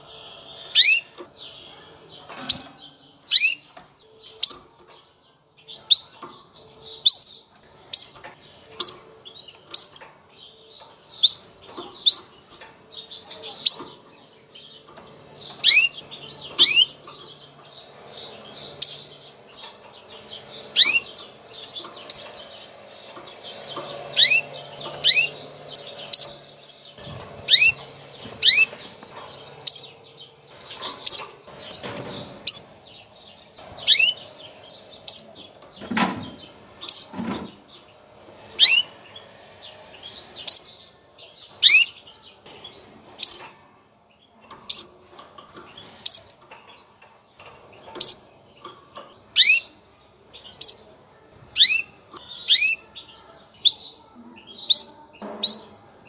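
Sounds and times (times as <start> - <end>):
canary chirping: 0.0 - 56.0.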